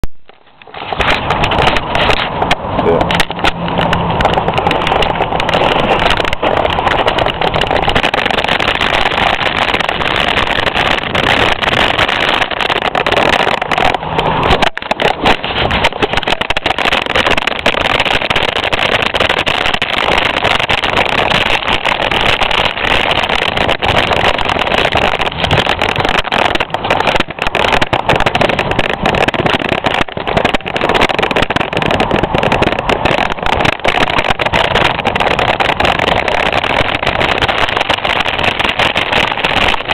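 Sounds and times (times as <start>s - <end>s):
wind on microphone: 0.0s - 39.9s
bike rattling and knocking: 0.3s - 39.9s.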